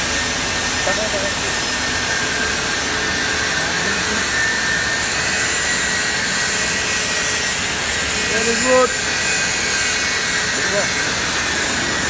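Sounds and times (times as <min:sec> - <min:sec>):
welding arc sizzling: 0:00.0 - 0:12.0.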